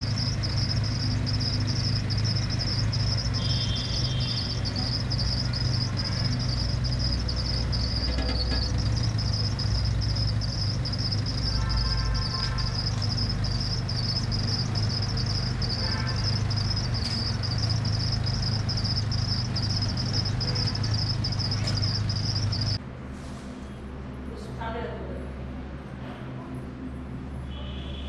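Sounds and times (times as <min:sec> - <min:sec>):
insects trilling: 0:00.0 - 0:22.8
constant low hum: 0:00.0 - 0:23.1.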